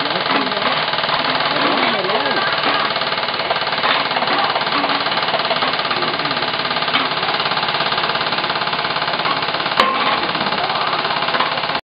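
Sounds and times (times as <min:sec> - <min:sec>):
airsoft guns automatic fire: 0:00.0 - 0:11.8.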